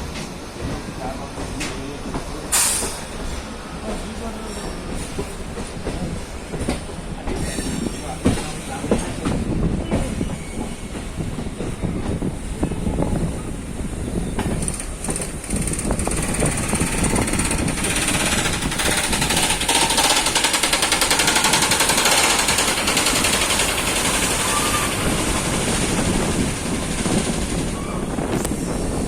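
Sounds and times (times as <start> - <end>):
train clattering on track: 0.0 - 29.0.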